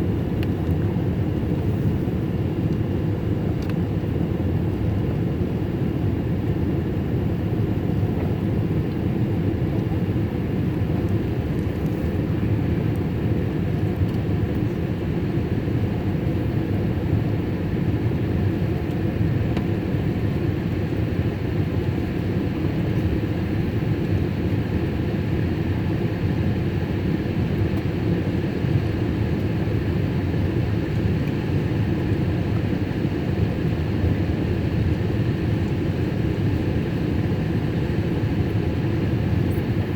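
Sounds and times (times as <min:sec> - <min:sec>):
jet engine and airflow rush: 0:00.0 - 0:39.9.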